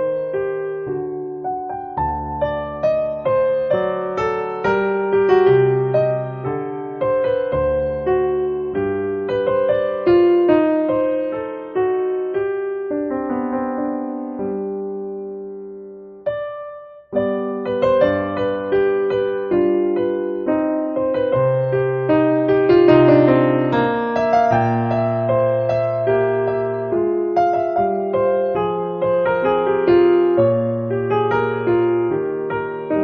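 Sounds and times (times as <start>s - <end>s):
gentle piano melody: 0.0s - 33.0s.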